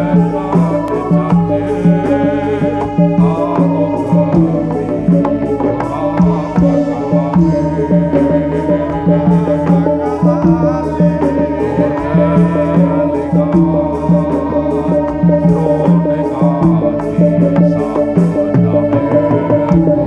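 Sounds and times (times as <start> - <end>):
gamelan percussion and hand drums: 0.0 - 20.0
person singing wavering melody: 0.0 - 20.0.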